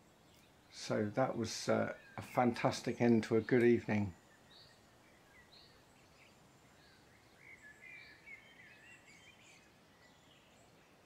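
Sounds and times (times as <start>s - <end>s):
songbird chirping: 0.0s - 11.0s
songbird warbling: 0.3s - 11.0s.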